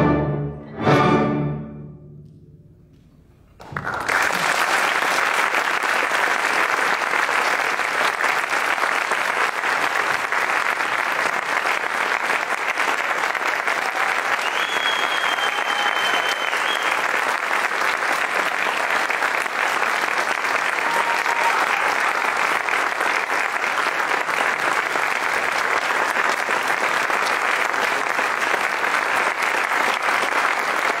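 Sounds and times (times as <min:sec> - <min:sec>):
audience applauding: 0:03.5 - 0:31.0.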